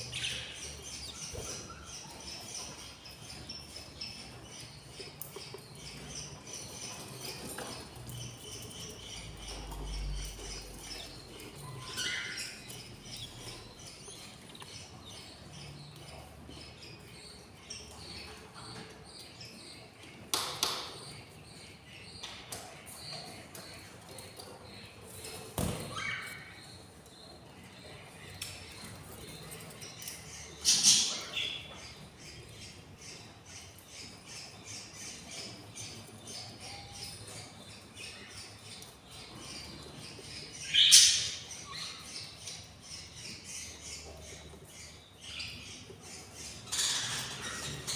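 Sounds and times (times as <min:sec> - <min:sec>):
chicks squeaky chirping: 0:00.0 - 0:47.9.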